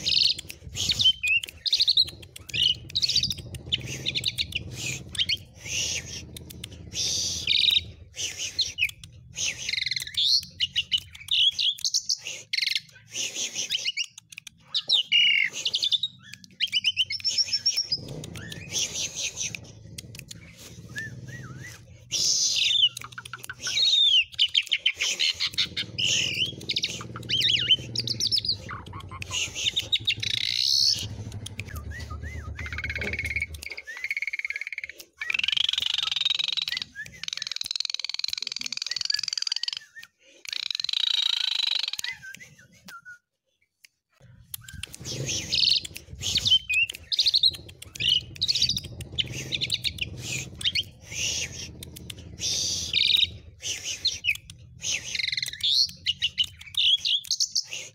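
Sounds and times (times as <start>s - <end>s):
starling harsh chattering: 0.0s - 33.9s, 44.4s - 57.9s
starling whistles and trills: 0.0s - 43.6s, 44.5s - 57.9s.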